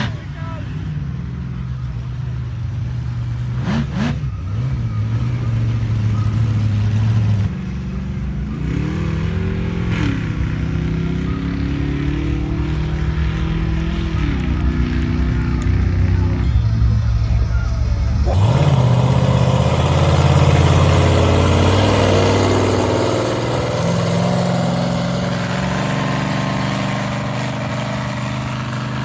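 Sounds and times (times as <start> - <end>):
engine revving: 3.0 - 7.7, 8.5 - 29.0.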